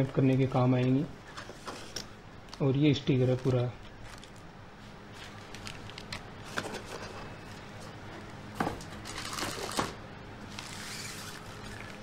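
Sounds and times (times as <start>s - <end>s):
packaging rustling and crinkling: 0.2s - 7.7s, 9.0s - 12.0s.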